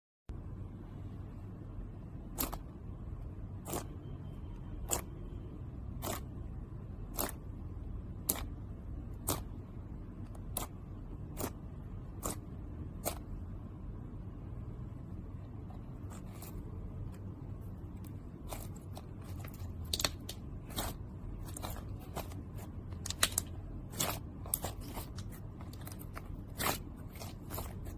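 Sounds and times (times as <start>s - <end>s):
steady low hum: 0.3s - 27.9s.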